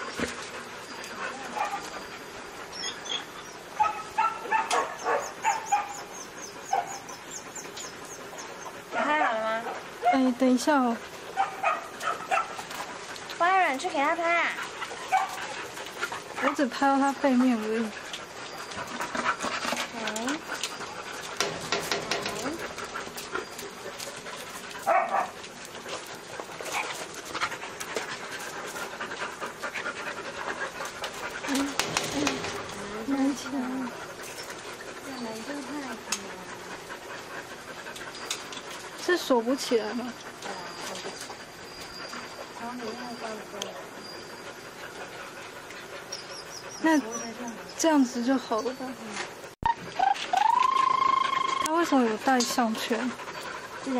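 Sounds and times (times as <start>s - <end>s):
dogs yipping and whining: 0.0s - 10.2s, 11.1s - 53.9s.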